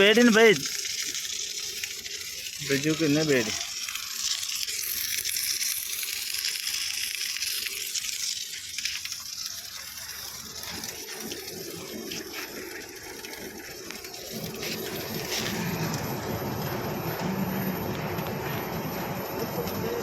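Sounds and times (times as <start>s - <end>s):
welding hiss and crackles: 0.0s - 20.0s.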